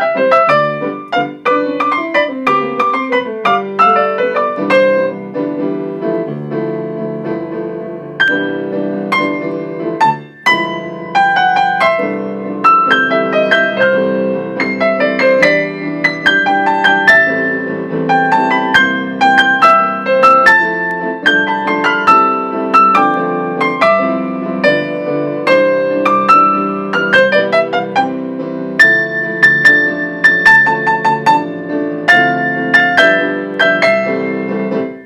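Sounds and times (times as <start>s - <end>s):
piano four hands: 0.0s - 35.0s.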